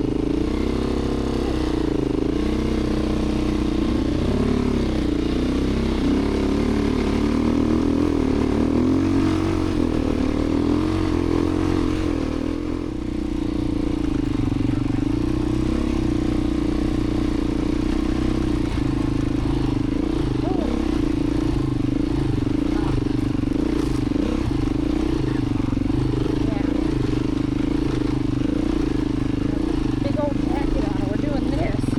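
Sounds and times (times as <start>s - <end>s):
dirt bike engine running: 0.0s - 31.9s.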